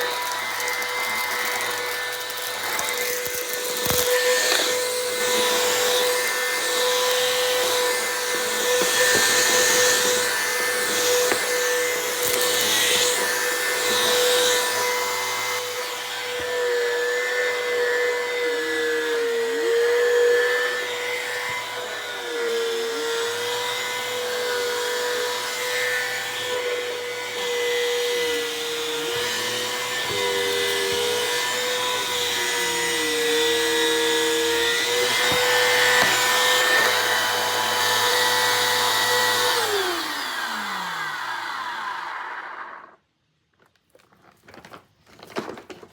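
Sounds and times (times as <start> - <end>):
vacuum cleaner motor whine: 0.0 - 43.0.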